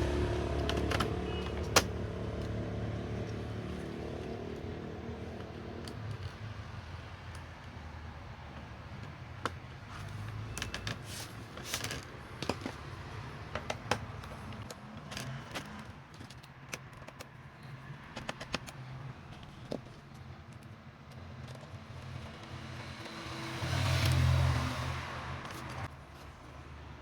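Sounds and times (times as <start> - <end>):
small hard parts clicking: 0.0 - 26.0.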